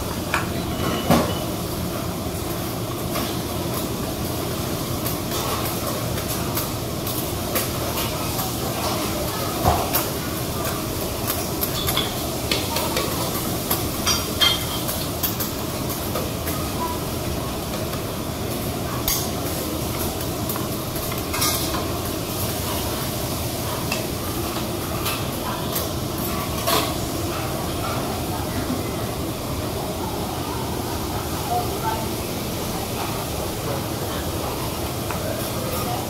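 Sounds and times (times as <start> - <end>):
bean sprouts sizzling on griddle: 1.5 - 36.0.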